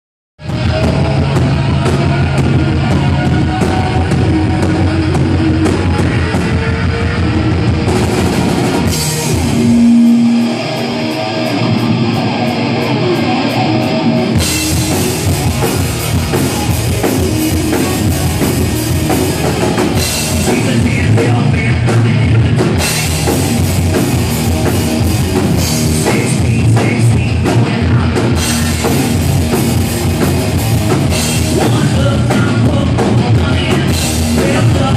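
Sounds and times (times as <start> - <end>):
bass guitar: 0.4 - 34.9
distorted electric guitars: 0.4 - 34.9
drum kit: 0.4 - 34.9
live hard rock band: 0.4 - 34.9.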